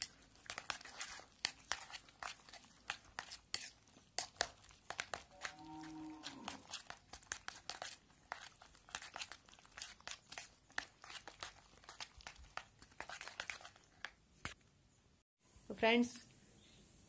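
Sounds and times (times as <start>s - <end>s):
knife scraping batter in bowl: 0.0s - 14.0s.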